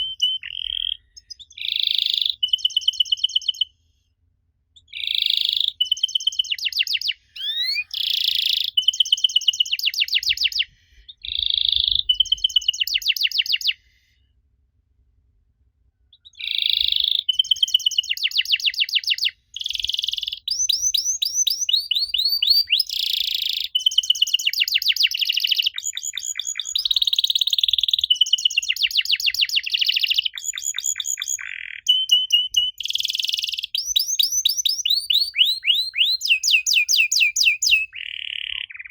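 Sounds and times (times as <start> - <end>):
canary singing trills: 0.0 - 3.7, 4.8 - 13.8, 16.1 - 38.9.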